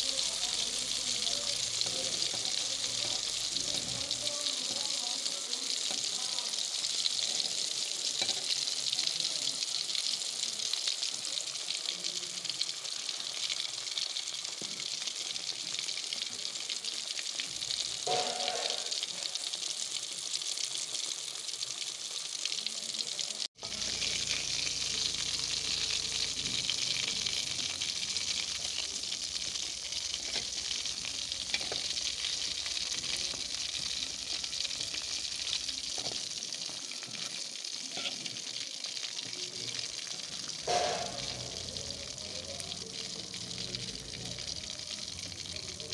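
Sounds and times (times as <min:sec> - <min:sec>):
fish frying in hot oil: 0:00.0 - 0:45.9.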